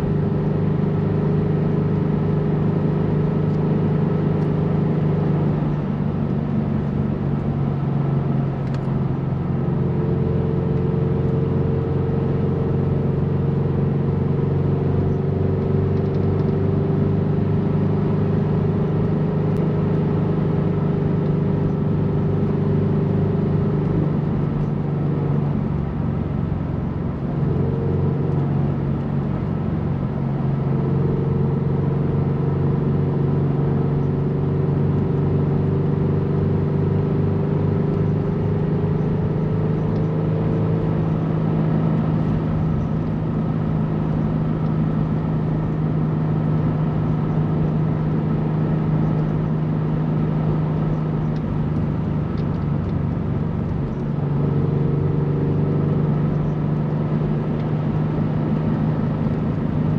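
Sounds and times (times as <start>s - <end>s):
car engine running inside car: 0.0s - 59.9s.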